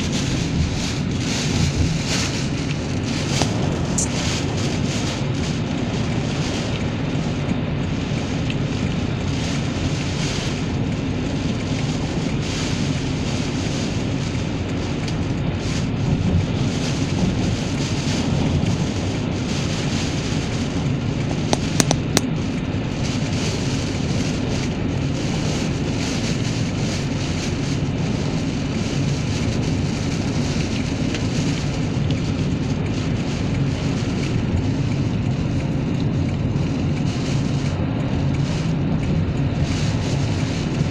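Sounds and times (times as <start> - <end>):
strong wind and rain rushing: 0.0 - 40.9.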